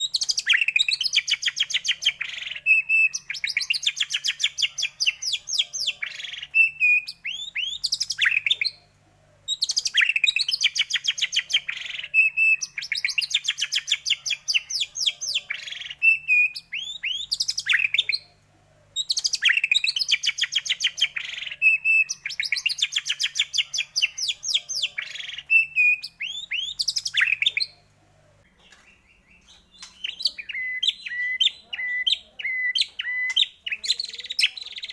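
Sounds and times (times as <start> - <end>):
bird song trills and whistles: 0.0 - 34.9.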